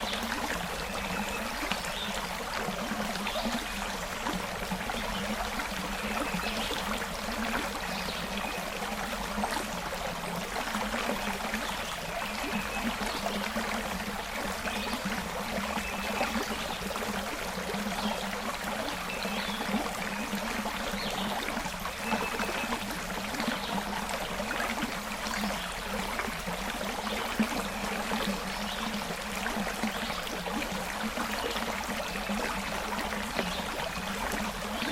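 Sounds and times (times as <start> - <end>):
creek water rushing: 0.0 - 34.9
water bubbling trickles: 0.0 - 34.9.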